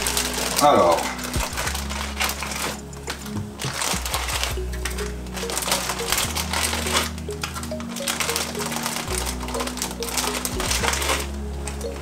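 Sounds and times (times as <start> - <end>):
background music: 0.0 - 12.0
plastic bag crinkling: 0.0 - 12.0.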